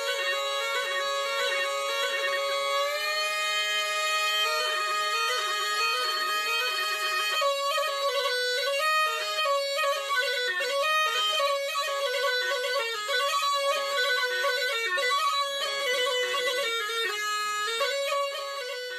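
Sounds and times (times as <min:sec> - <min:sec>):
reedy wind instrument folk melody: 0:00.0 - 0:18.9.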